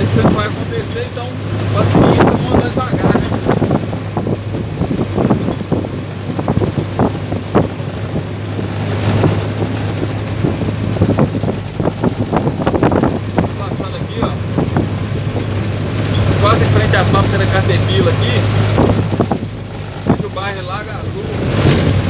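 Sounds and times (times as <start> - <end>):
bus body rattles and knocks: 0.0 - 22.0
diesel engine low hum: 0.0 - 22.0.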